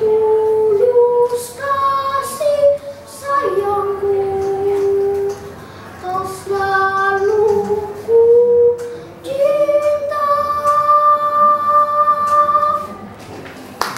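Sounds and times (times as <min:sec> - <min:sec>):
boy singing unaccompanied: 0:00.0 - 0:13.1.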